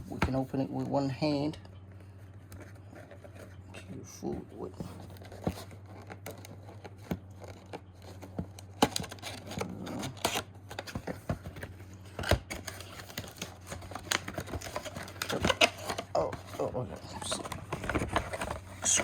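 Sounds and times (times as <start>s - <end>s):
cardboard scraping and rustling: 2.4s - 19.0s.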